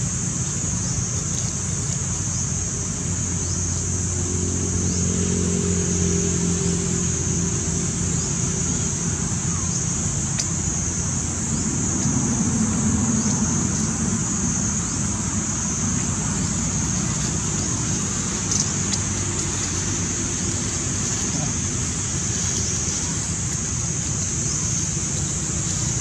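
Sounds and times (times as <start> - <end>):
constant high-pitched hiss: 0.0 - 26.0.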